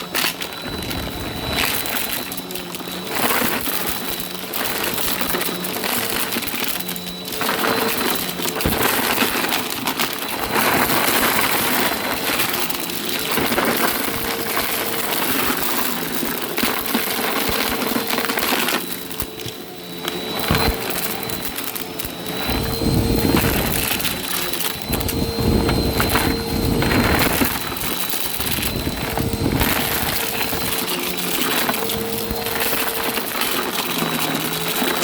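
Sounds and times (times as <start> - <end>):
debris crackling in vacuum: 0.0 - 35.0
vacuum cleaner motor whine: 0.0 - 35.0.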